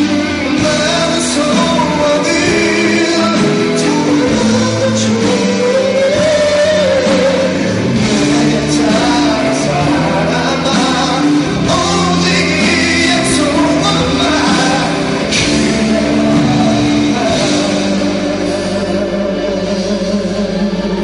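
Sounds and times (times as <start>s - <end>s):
band accompaniment: 0.0s - 21.0s
man singing into microphone: 0.0s - 21.0s.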